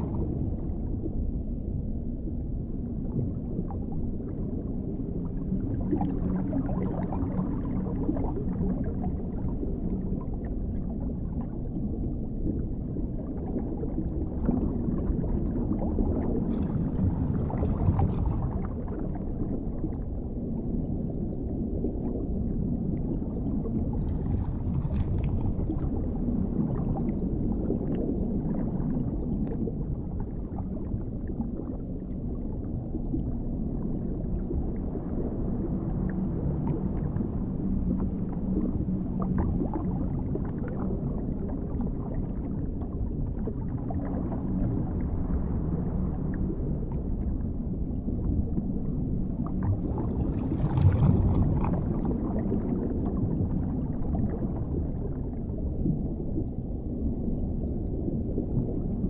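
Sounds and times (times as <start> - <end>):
deep muffled underwater rumble: 0.0 - 59.0.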